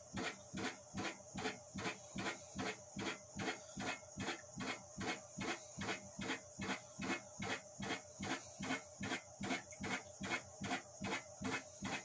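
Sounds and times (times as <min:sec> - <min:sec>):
sump pump pulsing: 0:00.0 - 0:12.0.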